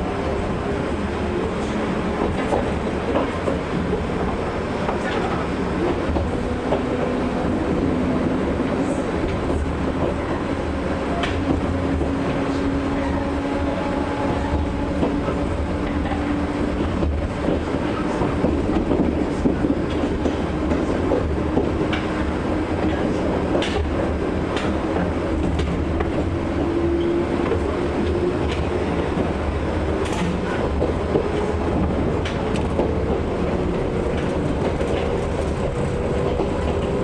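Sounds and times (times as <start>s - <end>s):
train rumble: 0.0s - 37.0s
sharp clicks from rails: 1.6s - 12.9s, 13.9s - 37.0s.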